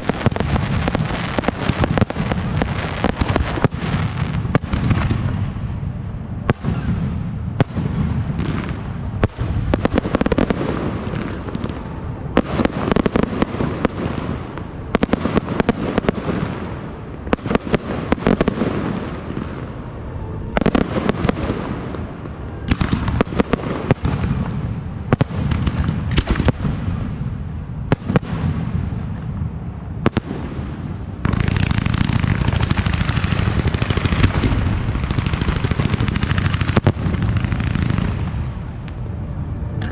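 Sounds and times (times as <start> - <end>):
fireworks bangs: 0.0 - 39.9
fireworks crackling and rumble: 0.0 - 39.9.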